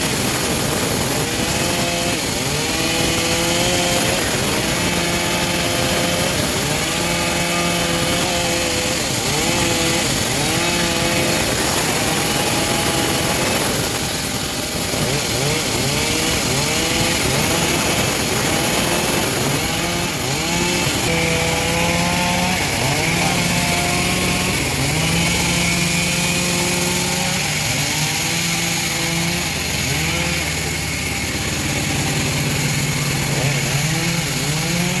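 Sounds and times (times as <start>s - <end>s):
saw blade cutting wood: 0.0s - 35.0s
sawmill engine under load: 0.0s - 35.0s.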